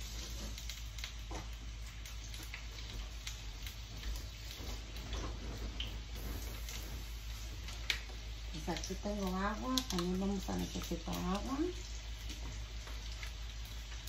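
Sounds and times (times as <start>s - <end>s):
chiles sizzling in oil: 0.0s - 14.0s.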